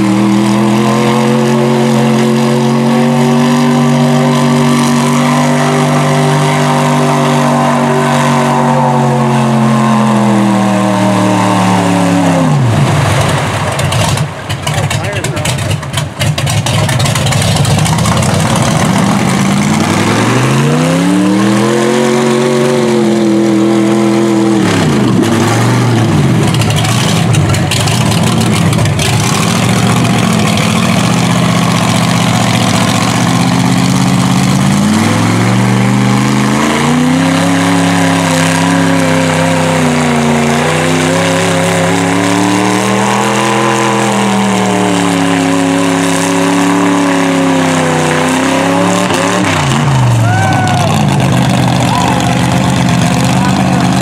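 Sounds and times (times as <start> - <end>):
tires churning through mud: 0.0 - 54.0
truck engine revving hard: 0.0 - 54.0.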